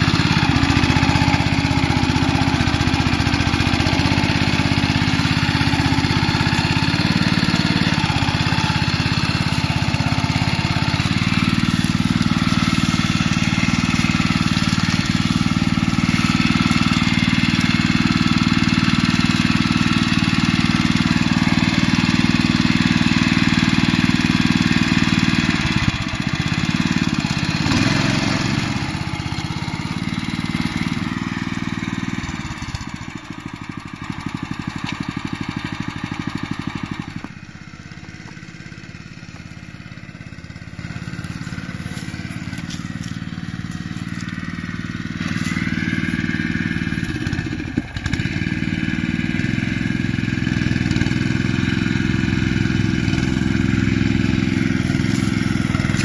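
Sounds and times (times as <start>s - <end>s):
small petrol engine under load: 0.0s - 56.0s
tines churning through mud: 0.0s - 56.0s.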